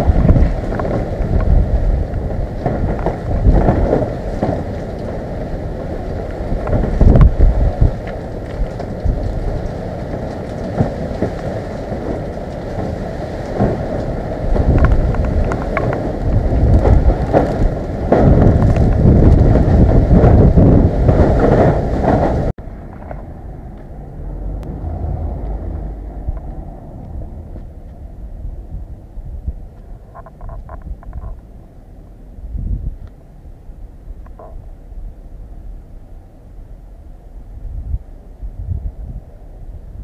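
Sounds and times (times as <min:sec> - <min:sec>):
strong wind howling through trees: 0:00.0 - 0:40.0
wind buffeting microphone: 0:00.0 - 0:40.0.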